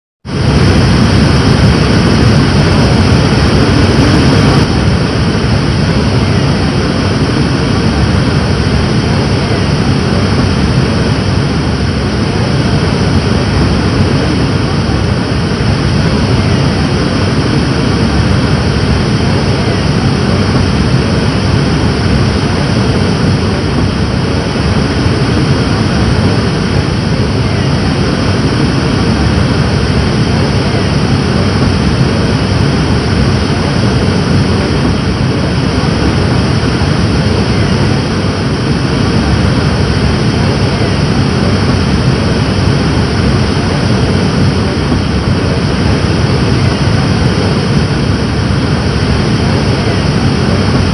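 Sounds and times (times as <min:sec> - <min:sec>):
rushing water roar: 0:00.2 - 0:50.9.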